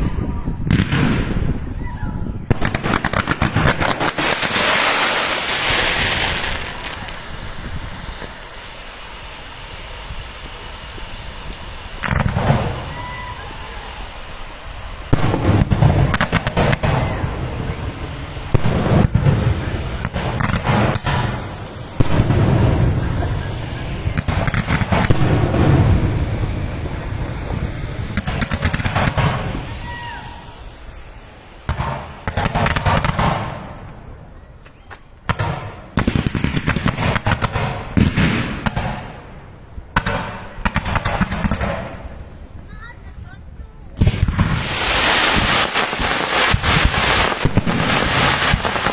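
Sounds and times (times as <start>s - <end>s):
fireworks booming and crackling: 0.0s - 48.9s.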